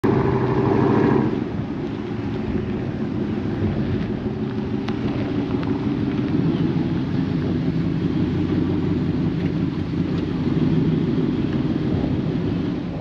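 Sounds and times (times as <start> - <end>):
pickup truck engine driving: 0.0 - 13.0.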